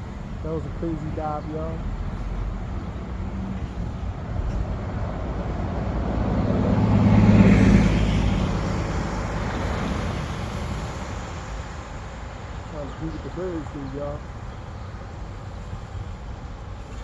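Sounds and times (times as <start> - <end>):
road vehicle passing by: 0.0 - 17.0.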